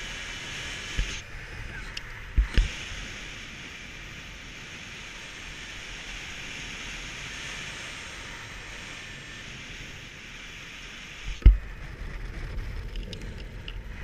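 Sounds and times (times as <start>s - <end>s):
air rushing over microphone: 0.0s - 14.0s.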